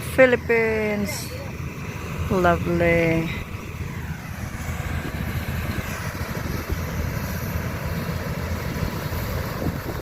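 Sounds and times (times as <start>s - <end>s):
farm machine engine running: 0.0s - 10.0s.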